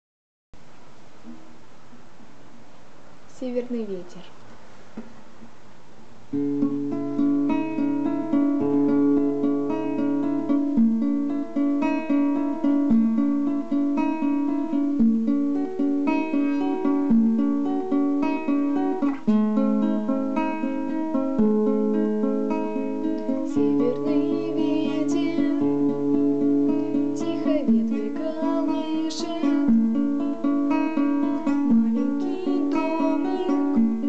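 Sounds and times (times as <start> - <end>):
fingerpicked guitar arpeggios: 6.3 - 34.0.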